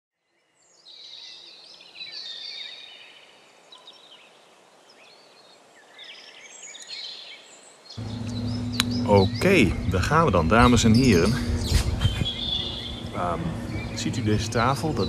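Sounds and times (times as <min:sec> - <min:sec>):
birdsong chirps and whistles: 0:00.2 - 0:15.0.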